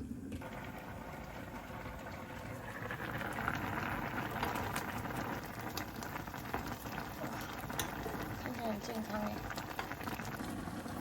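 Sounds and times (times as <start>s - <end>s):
soup bubbling at a boil: 0.0s - 11.0s.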